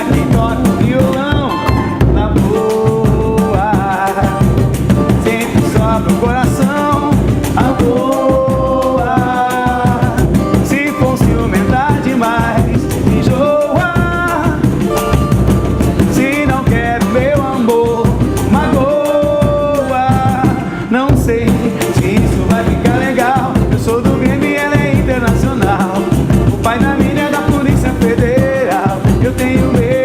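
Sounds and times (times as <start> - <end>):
drums and percussion: 0.0 - 30.0
person singing melody: 0.0 - 30.0.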